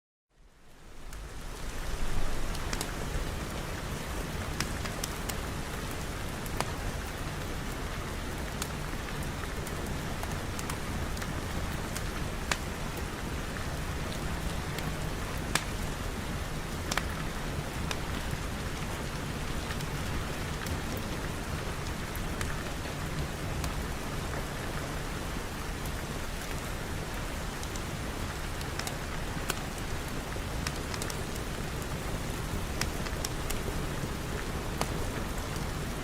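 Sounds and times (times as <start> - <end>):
steady rain falling: 0.3 - 36.0.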